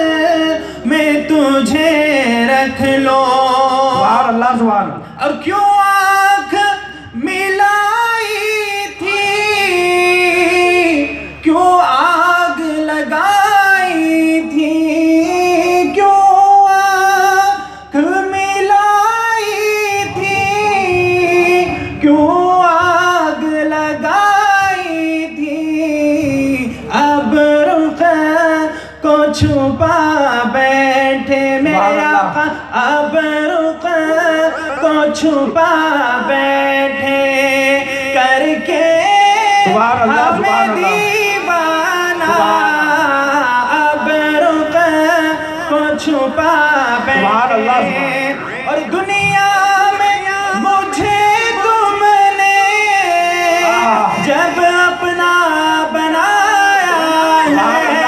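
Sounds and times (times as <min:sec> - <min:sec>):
man singing through loudspeakers: 0:00.0 - 0:58.0.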